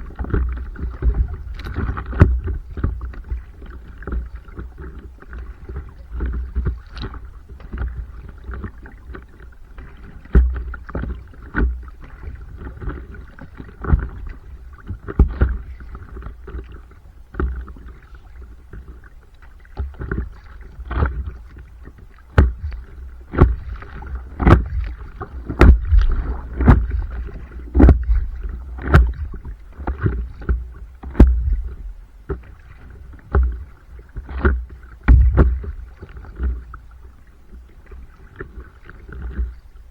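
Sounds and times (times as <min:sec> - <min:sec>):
water slapping against board: 0:00.0 - 0:16.7, 0:19.6 - 0:36.7
paddle strokes in water: 0:00.0 - 0:39.9.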